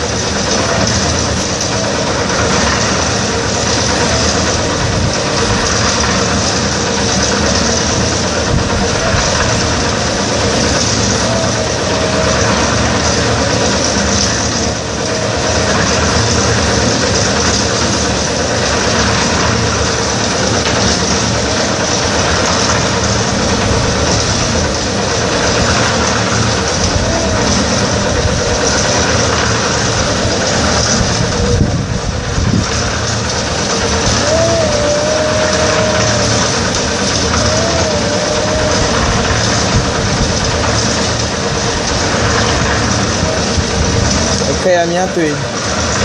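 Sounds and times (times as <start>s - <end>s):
concrete mixer engine running: 0.0s - 46.0s.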